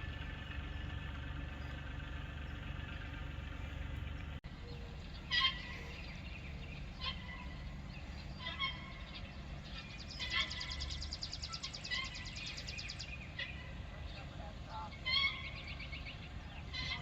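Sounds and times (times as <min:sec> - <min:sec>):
poultry calling: 0:00.0 - 0:17.0.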